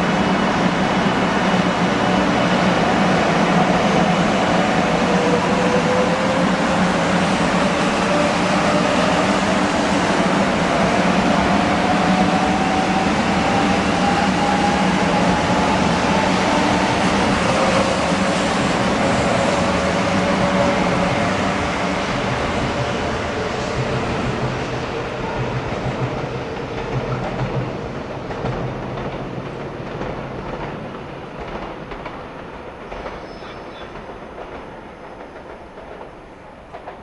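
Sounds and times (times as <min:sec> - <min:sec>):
train running with rising whine: 0:00.0 - 0:37.0.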